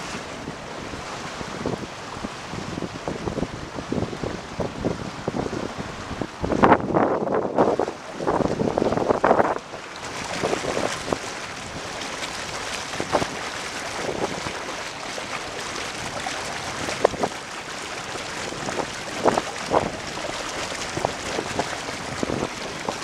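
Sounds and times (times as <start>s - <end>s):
water rushing past hull: 0.0s - 23.0s
water splashing: 0.0s - 23.0s
wind: 0.0s - 23.0s.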